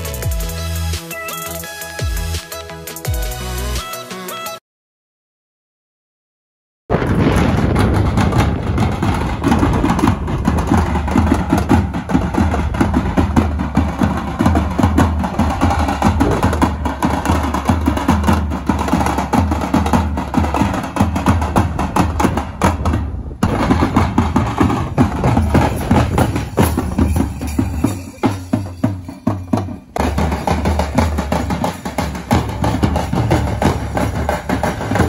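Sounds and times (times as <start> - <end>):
group drumming: 6.9 - 35.0.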